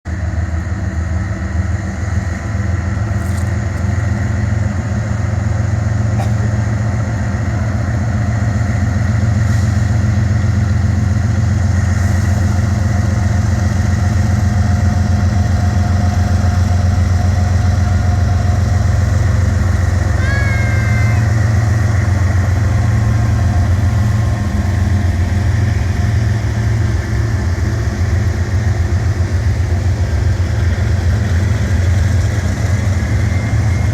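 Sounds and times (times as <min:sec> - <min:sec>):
diesel locomotive engines droning: 0:00.1 - 0:33.9.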